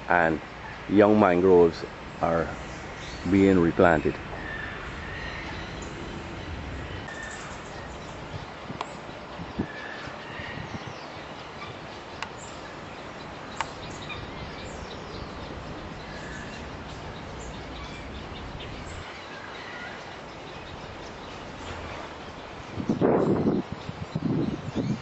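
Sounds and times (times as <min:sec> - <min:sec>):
steady background hiss: 0:00.0 - 0:25.0
bird chirps: 0:00.3 - 0:25.0.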